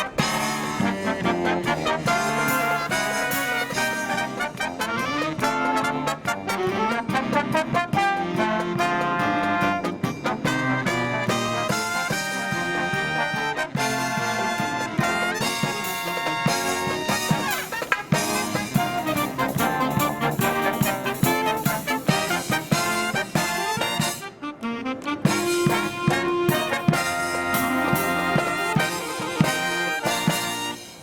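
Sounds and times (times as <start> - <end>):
drum beats: 0.0 - 24.4, 25.0 - 31.0
marching brass band playing: 0.0 - 31.0.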